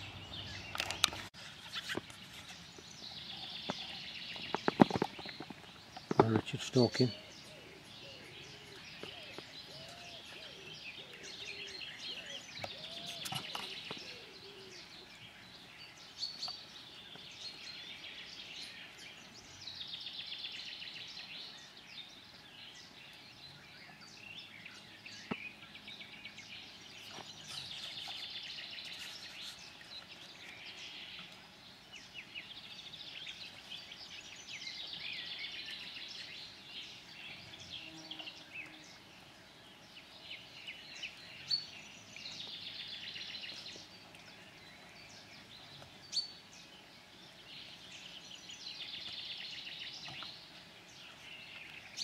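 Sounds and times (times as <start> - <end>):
bird chirps: 0.0 - 52.0
songbird singing: 0.0 - 52.0.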